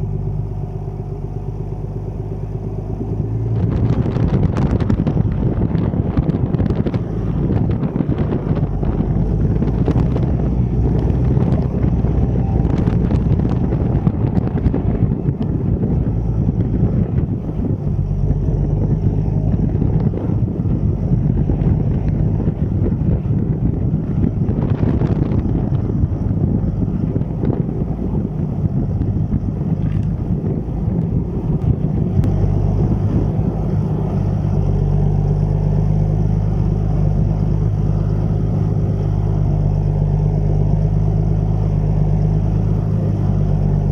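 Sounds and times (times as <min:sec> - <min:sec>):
tractor engine droning: 0:00.0 - 0:43.9
wind noise on microphone: 0:00.0 - 0:43.9.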